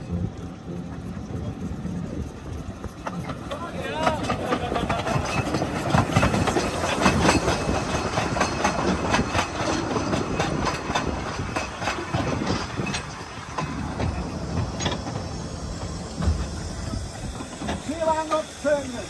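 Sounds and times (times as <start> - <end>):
train rumble: 0.0 - 19.0
wheels clicking over rail joints: 0.1 - 19.0.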